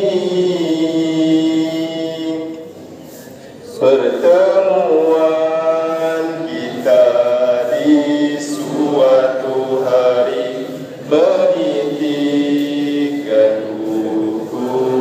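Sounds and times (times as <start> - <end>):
group singing unaccompanied: 0.0 - 2.8, 3.6 - 15.0.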